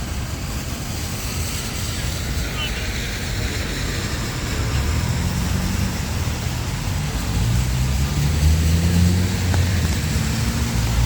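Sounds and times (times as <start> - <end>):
traffic hiss: 0.0 - 11.0
vehicle engine running: 1.4 - 11.0.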